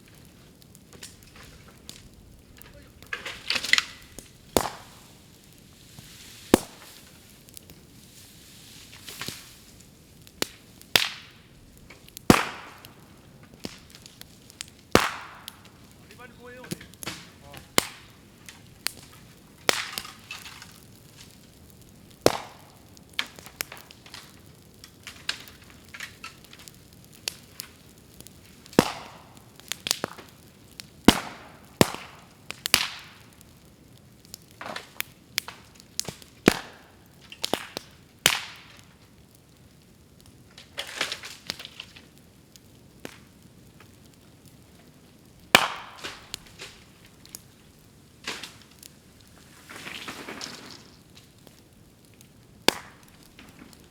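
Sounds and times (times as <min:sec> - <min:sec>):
bamboo bursting in a fire: 0:00.0 - 0:53.9.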